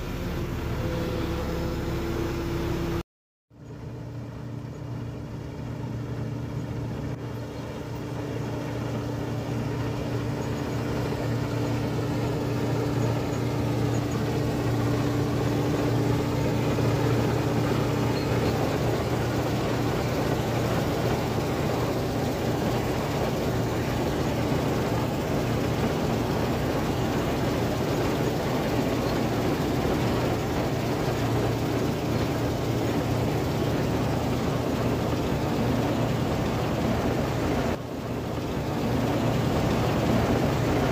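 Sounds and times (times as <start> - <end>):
combine harvester engine hum: 0.0 - 3.0, 3.6 - 40.9
machine whine: 0.0 - 3.0, 3.6 - 40.9.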